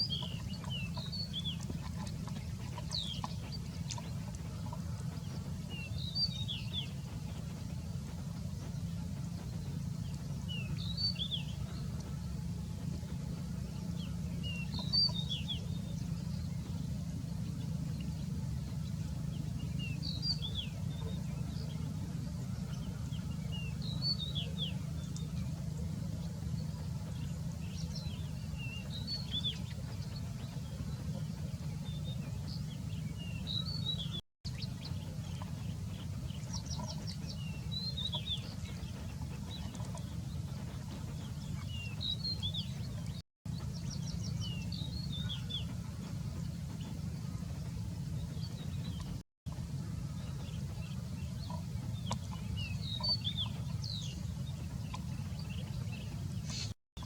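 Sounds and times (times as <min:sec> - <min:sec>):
low background rumble: 0:00.0 - 0:56.8
small birds chirping: 0:00.0 - 0:57.0.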